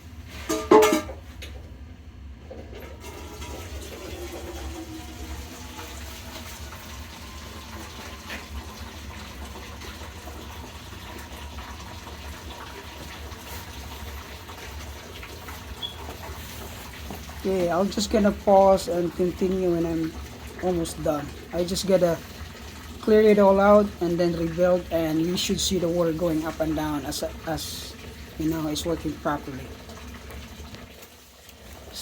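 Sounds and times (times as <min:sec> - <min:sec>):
water draining from a boiler: 0:02.4 - 0:32.0.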